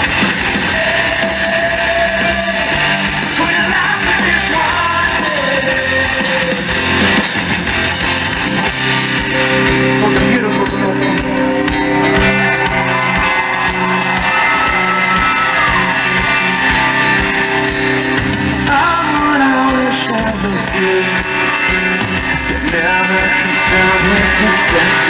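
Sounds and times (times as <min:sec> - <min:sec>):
bass guitar: 0:00.0 - 0:25.0
drums: 0:00.0 - 0:25.0
electric guitar long sliding notes: 0:00.0 - 0:25.0.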